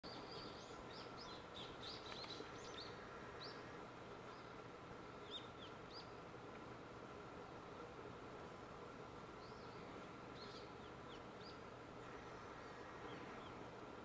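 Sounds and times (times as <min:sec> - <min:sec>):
small birds chirping: 0:00.0 - 0:06.3, 0:08.4 - 0:13.9
faint steady hum: 0:00.0 - 0:14.0.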